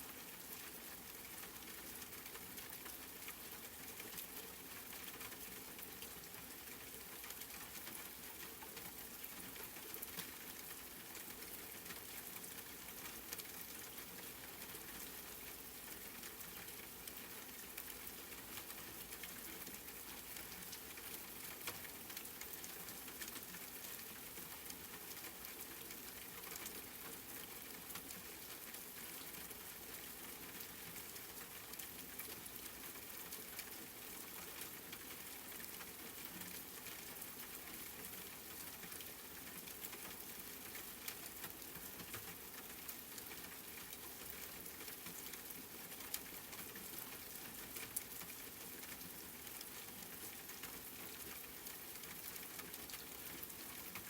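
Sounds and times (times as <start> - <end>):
rain pattering: 0.1 - 54.0.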